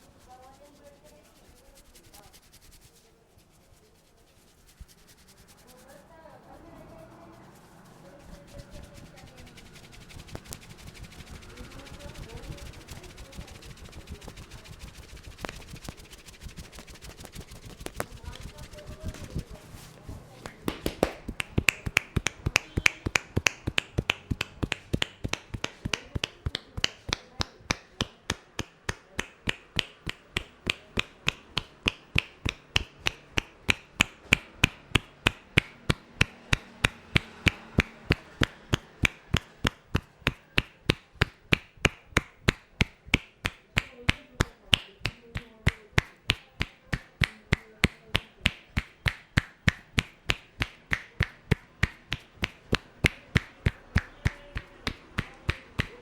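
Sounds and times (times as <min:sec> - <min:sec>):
hands striking a head: 0:07.8 - 0:56.0.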